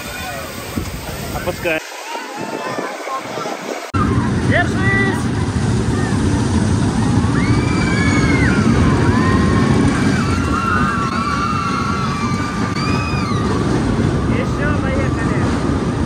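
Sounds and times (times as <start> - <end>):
amusement ride car rumbling: 2.4 - 16.0.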